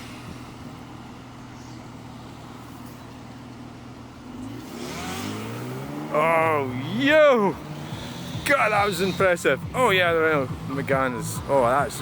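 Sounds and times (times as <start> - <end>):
car engine humming: 0.0 - 12.0
passing traffic: 0.0 - 12.0.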